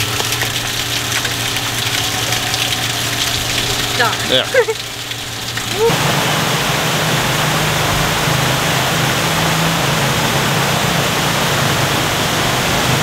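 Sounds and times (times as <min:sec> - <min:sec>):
falling water rushing: 0:00.0 - 0:13.0
low steady hum: 0:00.0 - 0:13.0.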